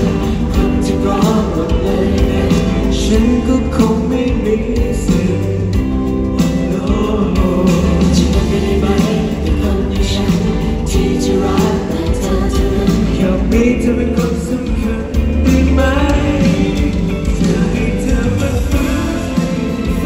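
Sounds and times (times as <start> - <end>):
live pop band playing: 0.0 - 20.0
person singing: 0.0 - 20.0.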